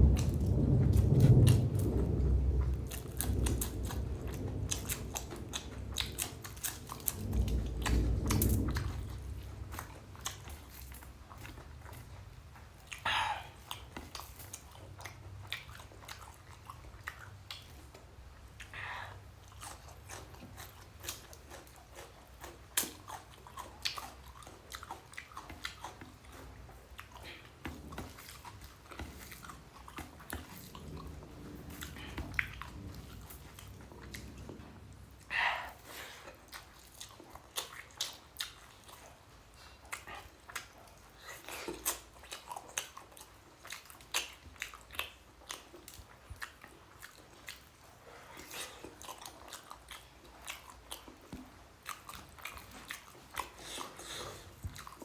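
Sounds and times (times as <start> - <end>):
person chewing and eating: 0.0 - 55.0.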